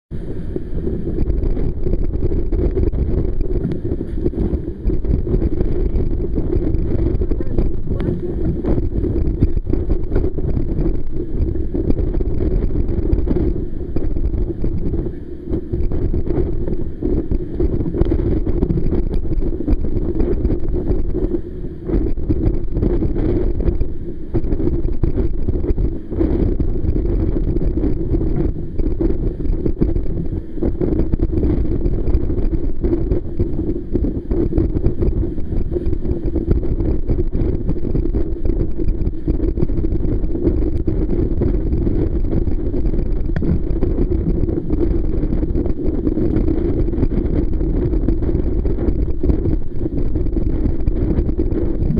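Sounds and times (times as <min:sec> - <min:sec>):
strong wind buffeting microphone: 0:00.1 - 0:51.9
water rushing along hull: 0:00.1 - 0:51.9.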